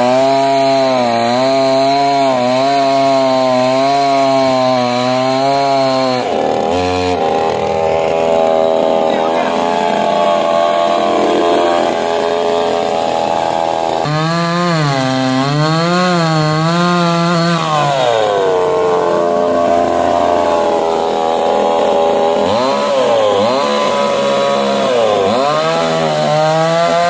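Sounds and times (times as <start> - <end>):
chainsaw engine running: 0.0 - 27.0.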